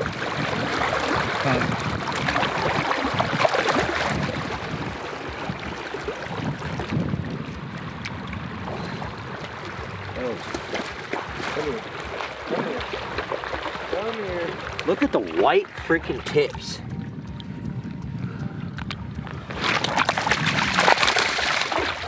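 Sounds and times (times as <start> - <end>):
river water splashing and rushing: 0.0 - 22.0.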